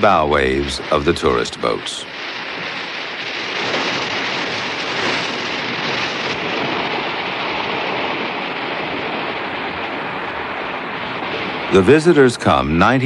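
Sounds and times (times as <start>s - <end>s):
sea water rushing along boat: 0.0s - 13.0s.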